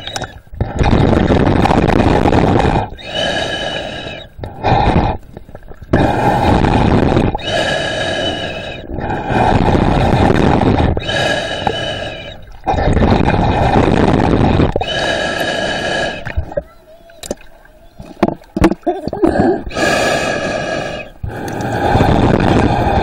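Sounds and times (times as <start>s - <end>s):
breathing through snorkel tube: 0.0s - 16.6s, 19.1s - 23.0s.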